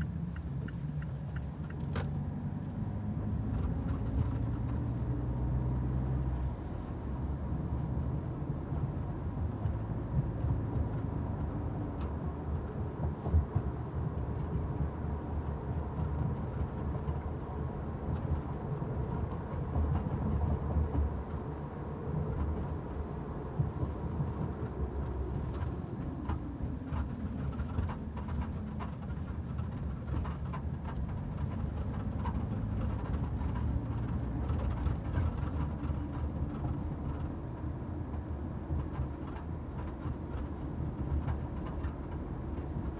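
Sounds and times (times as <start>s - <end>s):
road and tyre noise: 0.0s - 42.9s.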